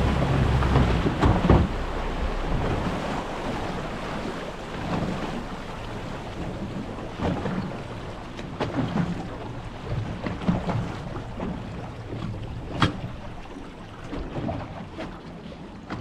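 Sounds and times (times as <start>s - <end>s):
wind on microphone: 0.0s - 13.6s
water lapping against boat hull: 0.0s - 16.0s.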